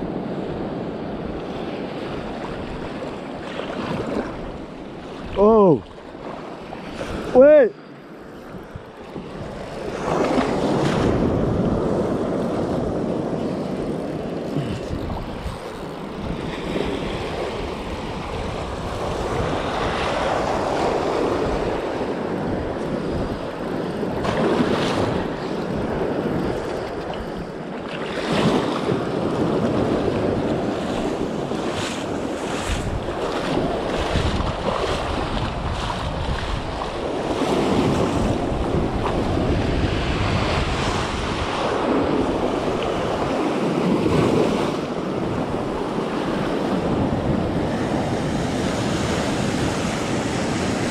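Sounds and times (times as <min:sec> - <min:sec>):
wind buffeting microphone: 0:08.2 - 0:50.9.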